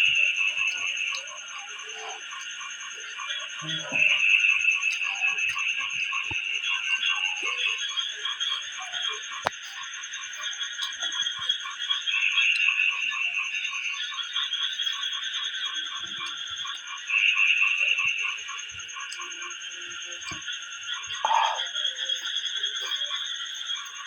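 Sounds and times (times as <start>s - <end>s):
continuous high trill: 0.0s - 24.0s
frogs pulsing calls: 0.0s - 24.0s.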